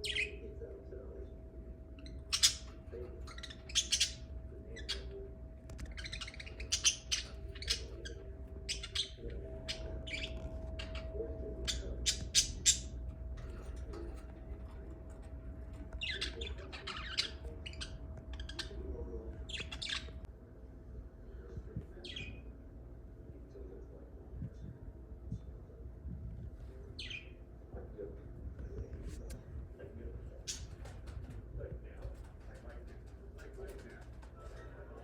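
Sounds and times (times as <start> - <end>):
birds chirping and squawking: 0.0 - 20.3, 22.0 - 22.6, 26.6 - 27.5, 28.7 - 35.0
faint steady hum: 0.0 - 35.0.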